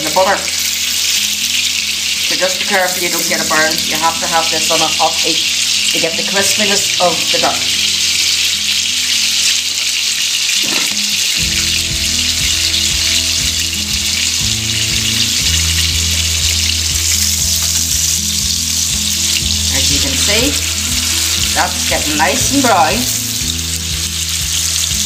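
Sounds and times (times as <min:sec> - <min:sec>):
duck searing in a frying pan: 0:00.0 - 0:25.0.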